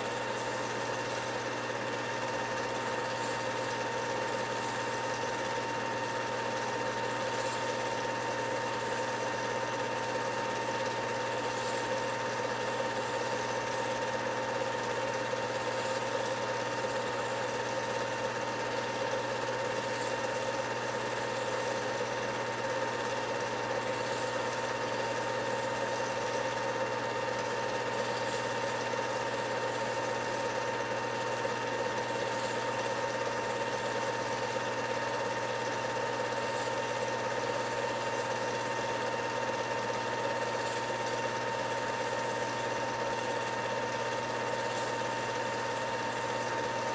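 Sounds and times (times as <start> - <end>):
film projector whirring: 0.0 - 46.9.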